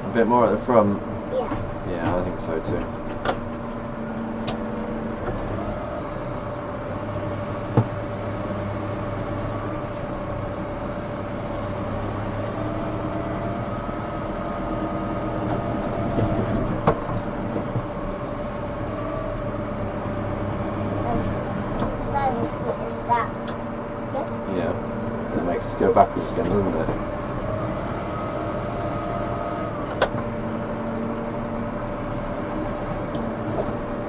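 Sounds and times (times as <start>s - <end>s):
engine whine: 0.0s - 34.0s
tractor engine running: 0.0s - 34.0s.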